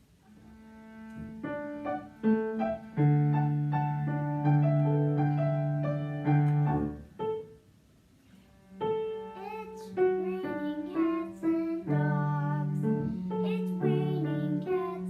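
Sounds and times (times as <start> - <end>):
piano playing: 0.0 - 7.7, 8.6 - 15.0.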